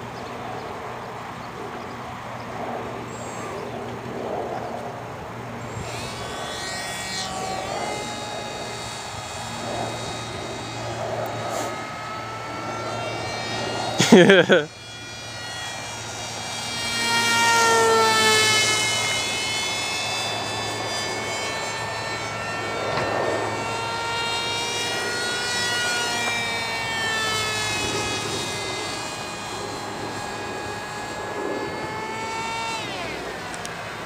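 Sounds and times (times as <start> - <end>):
model plane motor whining: 0.0 - 34.0.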